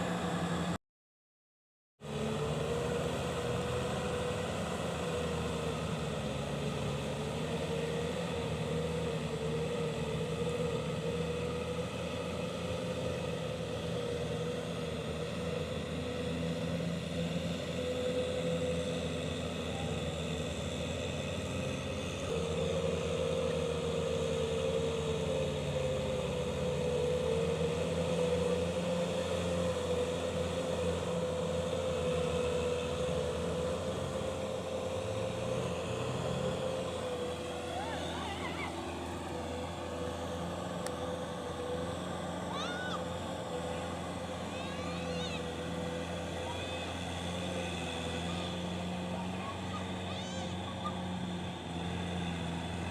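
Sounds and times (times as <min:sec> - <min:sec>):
tractor diesel engine running: 0:00.0 - 0:00.8, 0:02.0 - 0:52.9
whining tone: 0:02.1 - 0:52.9.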